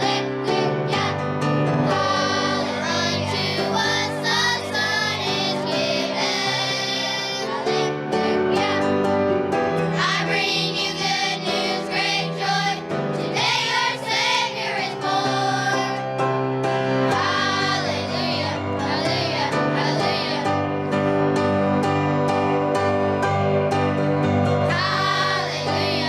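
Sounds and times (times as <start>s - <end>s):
children's choir singing: 0.0s - 21.4s, 24.6s - 26.0s
musical accompaniment: 0.0s - 26.0s.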